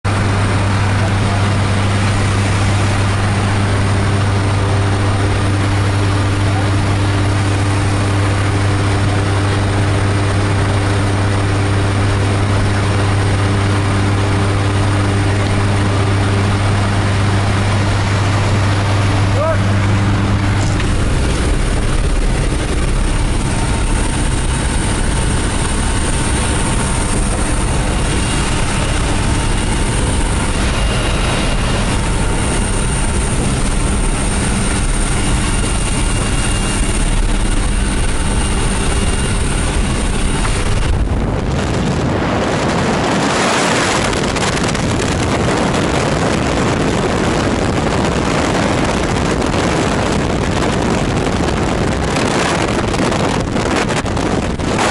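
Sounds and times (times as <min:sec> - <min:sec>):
propeller plane droning: 0:00.0 - 0:54.9
rush of wind: 0:00.0 - 0:54.9.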